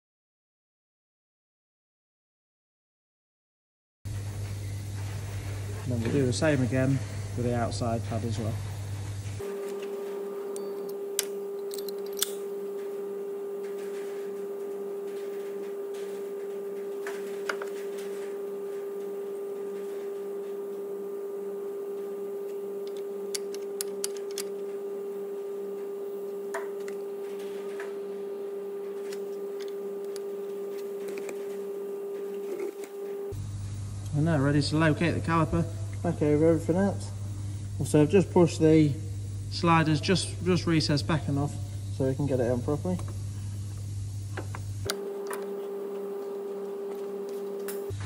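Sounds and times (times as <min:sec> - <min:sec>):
steady hum: 0:04.1 - 0:48.0.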